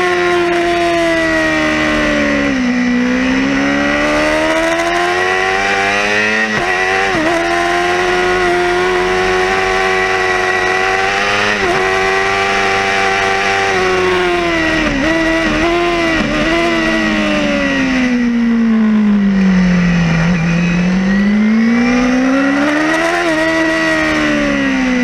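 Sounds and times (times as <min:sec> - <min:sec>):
motorcycle engine at high revs: 0:00.0 - 0:25.0.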